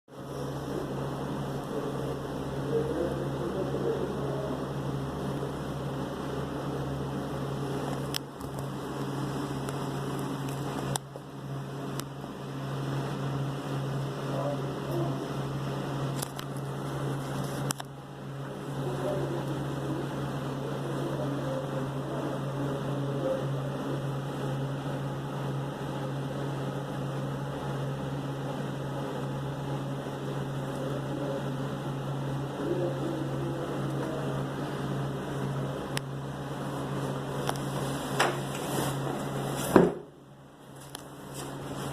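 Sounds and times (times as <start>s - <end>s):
steady machine hum: 0.0s - 41.9s.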